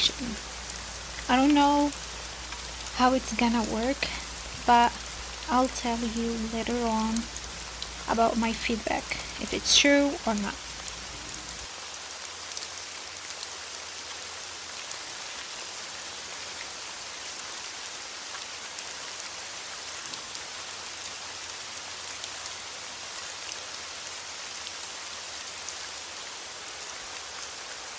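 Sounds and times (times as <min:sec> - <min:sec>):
rain drops ticking: 0:00.0 - 0:27.9
steady rain hiss: 0:00.0 - 0:27.9.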